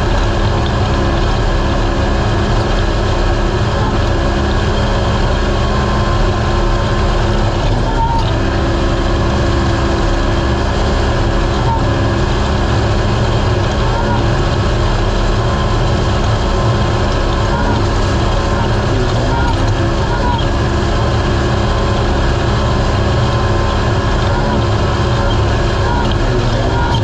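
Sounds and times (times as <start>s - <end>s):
engine running at high revs: 0.0s - 27.0s.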